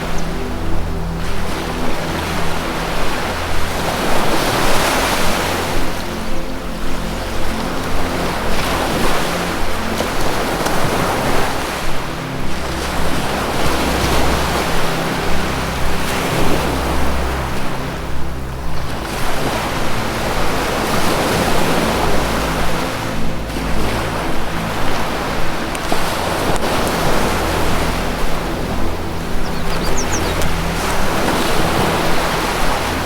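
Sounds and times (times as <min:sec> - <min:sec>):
ambient music held notes: 0:00.0 - 0:33.0
ocean waves washing in: 0:00.0 - 0:33.0.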